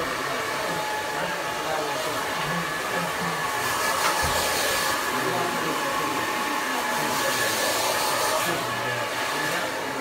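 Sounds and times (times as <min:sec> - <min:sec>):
hair dryer running: 0:00.0 - 0:10.0.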